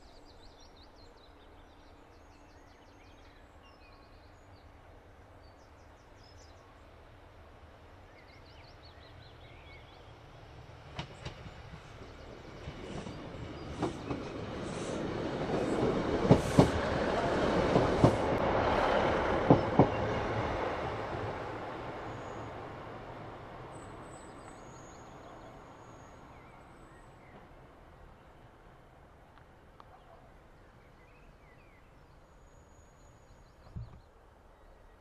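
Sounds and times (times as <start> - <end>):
diesel train passing: 0.8 - 29.8.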